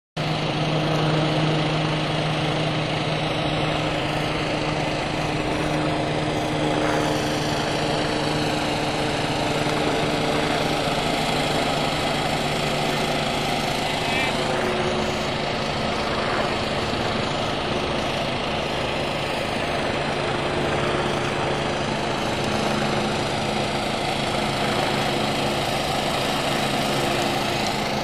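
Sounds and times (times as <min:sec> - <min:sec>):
engine running steadily: 0:00.2 - 0:28.0.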